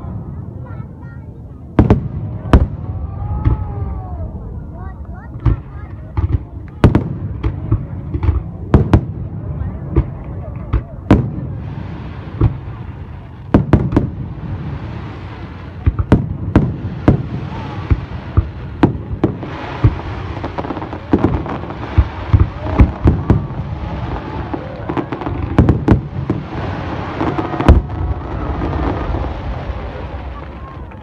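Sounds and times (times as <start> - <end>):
fireworks bangs: 0.0 - 4.3, 5.2 - 31.0
fireworks crackling rumble: 0.0 - 31.0.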